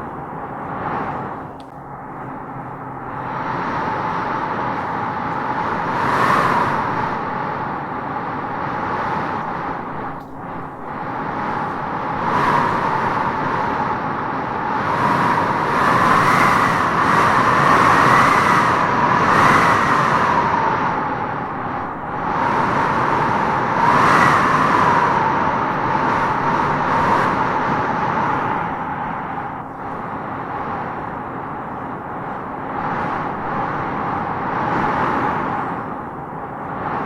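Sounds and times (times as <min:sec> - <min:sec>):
wind howling through trees: 0:00.0 - 0:37.0.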